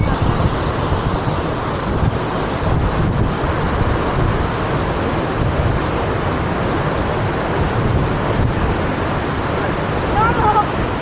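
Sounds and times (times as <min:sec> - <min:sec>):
waterfall roaring: 0:00.0 - 0:11.0
wind rumble on microphone: 0:00.0 - 0:11.0.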